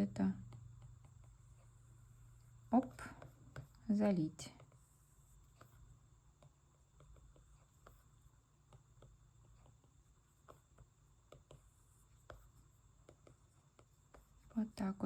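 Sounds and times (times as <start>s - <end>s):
low steady hum: 0.0s - 15.0s
stylus tapping on tablet screen: 0.3s - 15.0s.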